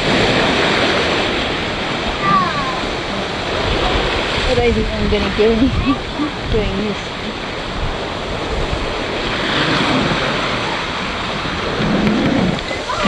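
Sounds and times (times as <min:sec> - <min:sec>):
water rushing along boat hull: 0:00.0 - 0:13.0
wind on microphone: 0:00.0 - 0:13.0.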